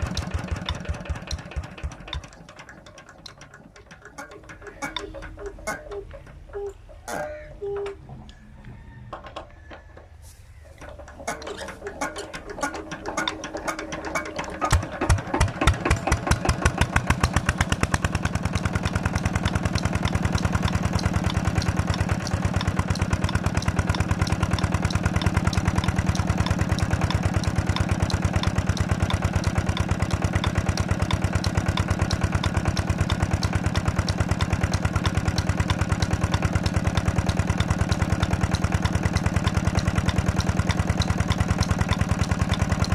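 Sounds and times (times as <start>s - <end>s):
diesel engine starting and running: 0.0s - 42.9s.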